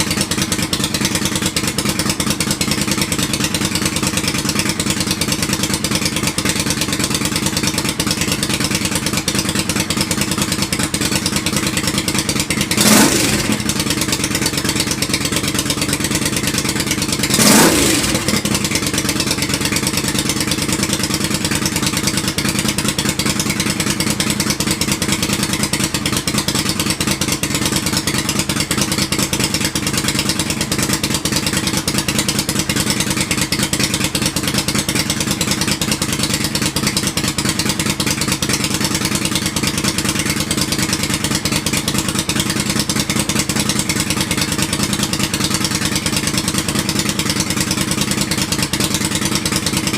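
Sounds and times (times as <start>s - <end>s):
motorcycle engine idling: 0.0s - 49.9s
motorcycle engine revving: 0.0s - 49.9s.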